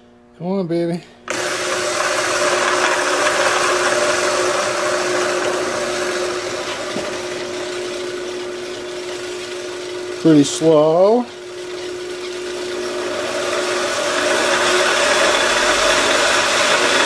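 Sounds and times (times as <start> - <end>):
motor humming: 1.2 - 17.0
belts and pulleys whirring: 1.3 - 17.0.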